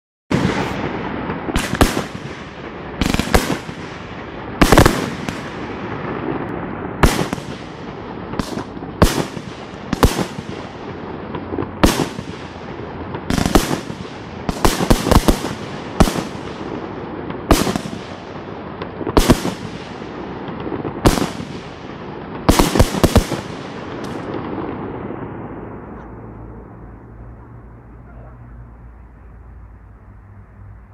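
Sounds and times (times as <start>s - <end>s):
fireworks bangs: 0.3s - 29.6s
rumble of fireworks: 0.3s - 30.9s.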